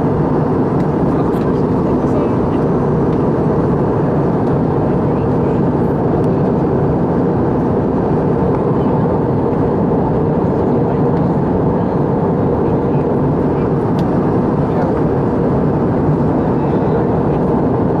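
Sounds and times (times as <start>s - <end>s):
airliner cabin engine roar: 0.0s - 18.0s.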